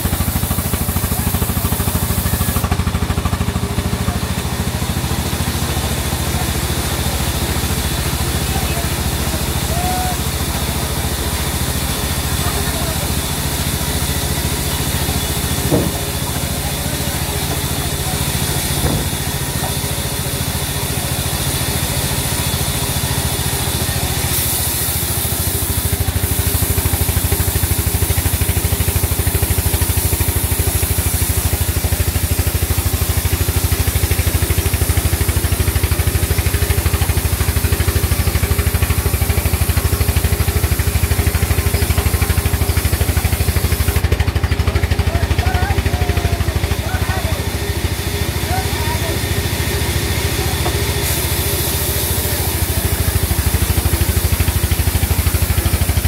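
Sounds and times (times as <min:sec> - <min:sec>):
saw blade hissing through wood: 0:00.0 - 0:03.1, 0:10.2 - 0:45.0, 0:47.4 - 0:56.0
band saw motor humming: 0:00.0 - 0:56.0.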